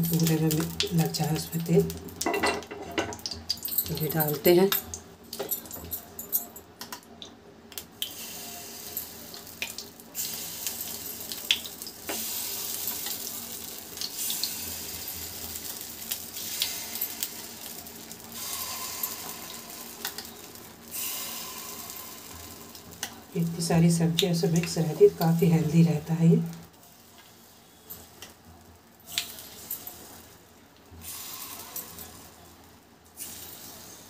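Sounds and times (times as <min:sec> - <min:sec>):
batter sizzling in hot oil: 0:00.0 - 0:05.4, 0:06.8 - 0:34.0.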